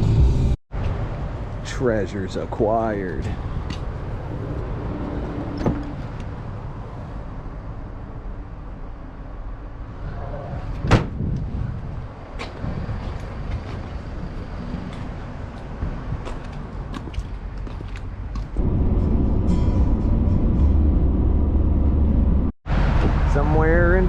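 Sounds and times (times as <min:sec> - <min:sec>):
motor vehicle rumbling: 0:00.0 - 0:24.0.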